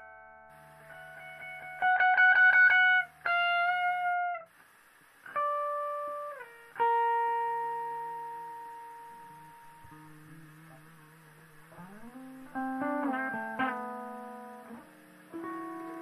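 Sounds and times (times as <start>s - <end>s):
guitar through effects: 0.0s - 16.0s.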